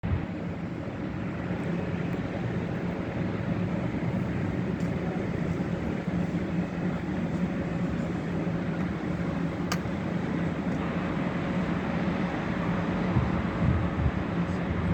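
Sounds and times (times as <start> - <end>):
jet engine rumble: 0.0 - 14.9.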